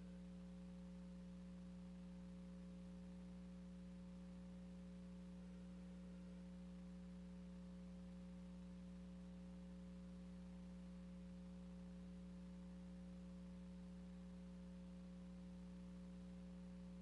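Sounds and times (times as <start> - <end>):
faint electrical hum with hiss: 0.0 - 17.0.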